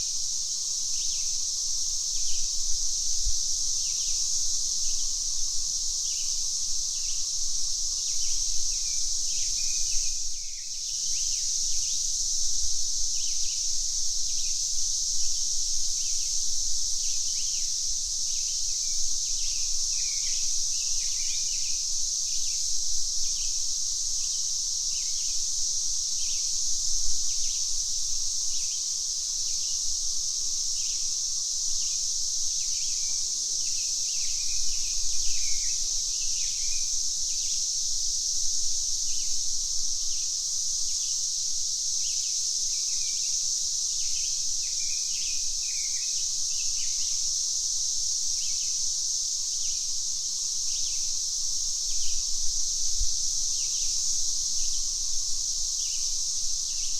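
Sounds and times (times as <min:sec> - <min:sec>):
cicadas droning: 0:00.0 - 0:56.9.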